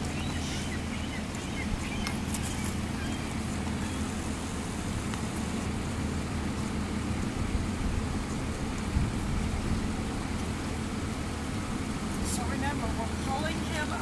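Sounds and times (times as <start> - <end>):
low mechanical hum: 0.0 - 14.0
outdoor background noise: 0.0 - 14.0.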